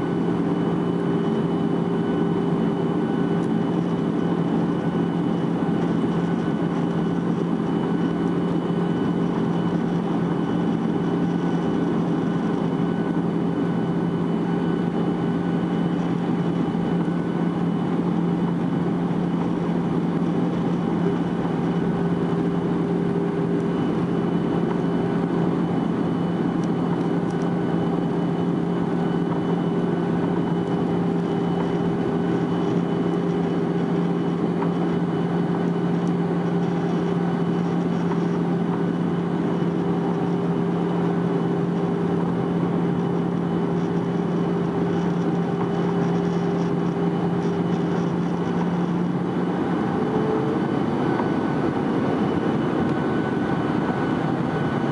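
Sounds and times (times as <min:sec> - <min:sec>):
jet engines droning: 0:00.0 - 0:54.9
low hum tones: 0:00.0 - 0:54.9.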